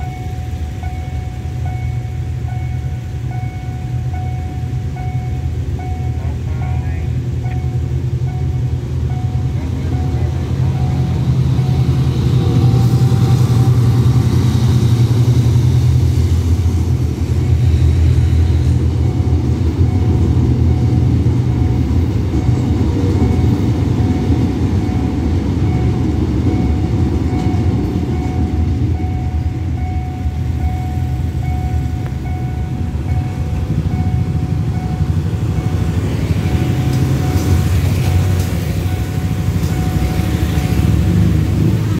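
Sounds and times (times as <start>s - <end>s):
crossing warning signal tone: 0.0s - 41.9s
train rumbling: 0.0s - 41.9s.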